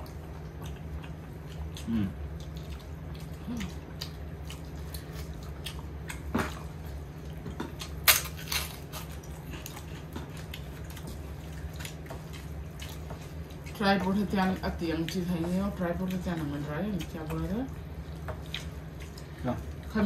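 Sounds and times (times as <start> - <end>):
person chewing: 0.0 - 13.8, 17.0 - 19.9
steady low hum: 0.0 - 20.0.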